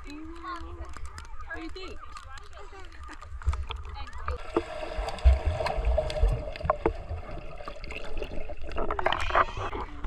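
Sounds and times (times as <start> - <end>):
water splashing and lapping: 0.0 - 10.0
rush of water: 0.9 - 10.0.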